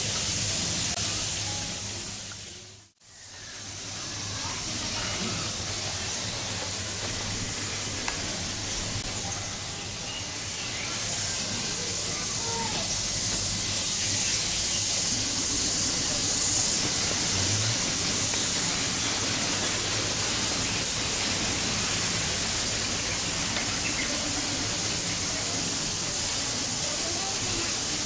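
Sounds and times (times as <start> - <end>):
steady hissing noise: 0.0 - 28.0.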